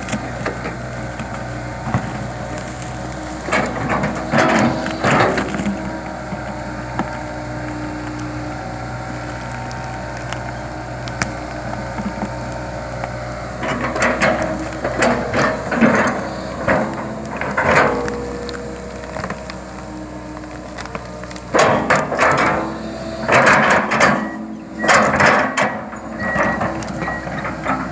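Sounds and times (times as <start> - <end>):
excavator diesel engine running: 0.0 - 27.9
wood cracking and crunching: 0.0 - 27.9.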